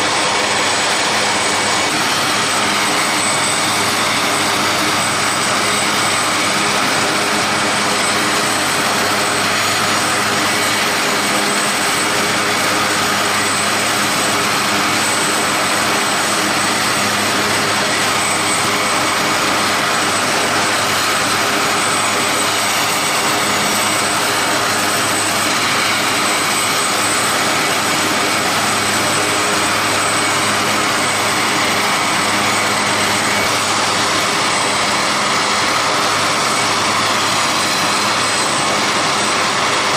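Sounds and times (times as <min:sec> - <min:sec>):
aircraft turbine engines roaring: 0:00.0 - 0:39.9
high-pitched turbine whine: 0:00.0 - 0:39.9.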